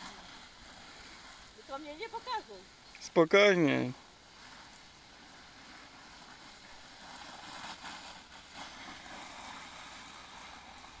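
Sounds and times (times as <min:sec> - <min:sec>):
hose spray pattering on leaves: 0:00.0 - 0:11.0.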